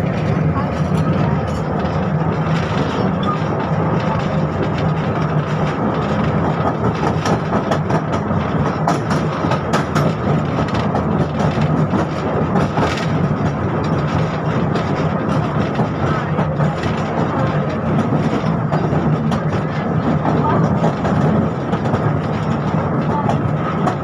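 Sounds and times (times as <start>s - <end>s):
tram hum and rumble: 0.0s - 24.0s
wheels clicking over rail joints: 0.0s - 24.0s.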